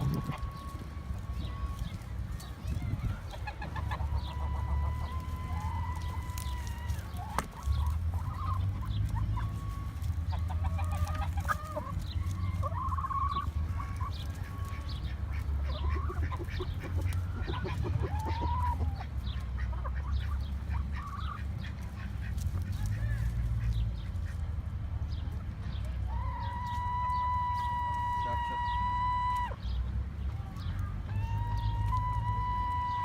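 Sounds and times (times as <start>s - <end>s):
chickens clucking and calling: 0.0s - 33.0s
steady low rumble: 0.0s - 33.0s.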